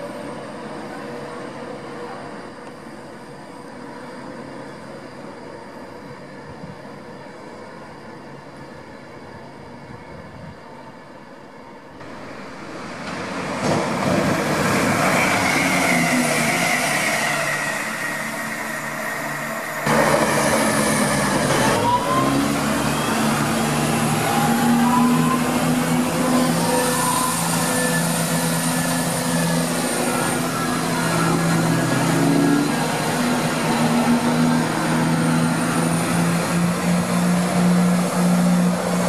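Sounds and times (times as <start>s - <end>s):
train low hum: 0.0s - 39.0s
train rushing through with whine: 0.0s - 39.0s
trains whining pulling away: 0.0s - 39.0s.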